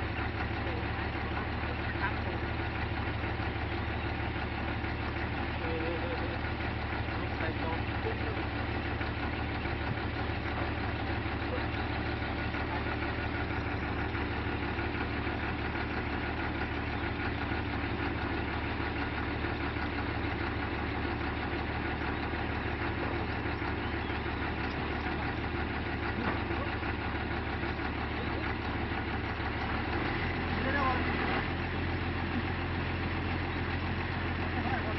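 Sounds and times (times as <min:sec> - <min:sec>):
diesel engine running steadily: 0:00.0 - 0:34.9.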